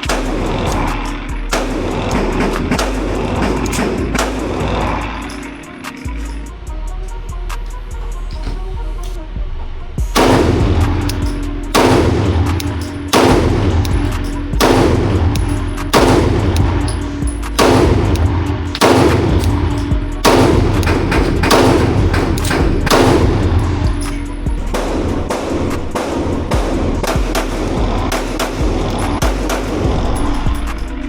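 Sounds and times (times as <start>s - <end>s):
pistol shots: 0.0s - 6.0s, 10.2s - 29.9s.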